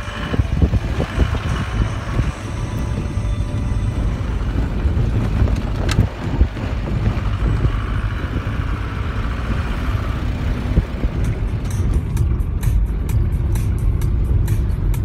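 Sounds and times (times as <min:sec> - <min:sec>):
wind noise: 0:00.0 - 0:12.6
vehicle engine and road noise: 0:00.0 - 0:15.0.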